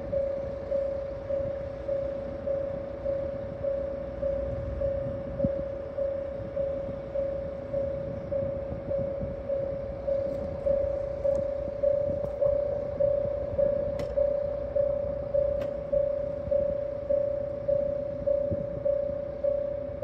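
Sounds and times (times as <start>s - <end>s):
diesel railcar idling rumble: 0.0s - 20.0s
level crossing alarm bell ringing: 0.0s - 20.0s.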